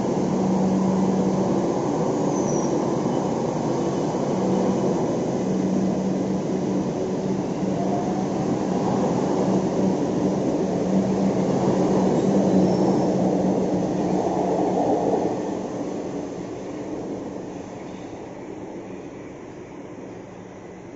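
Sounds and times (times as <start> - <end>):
train rumbling on rails: 0.0 - 20.9.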